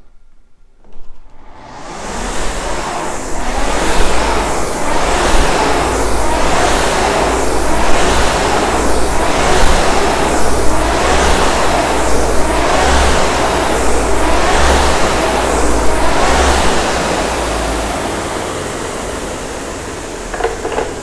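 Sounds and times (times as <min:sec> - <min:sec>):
rowing machine flywheel whooshing: 0:01.2 - 0:21.0.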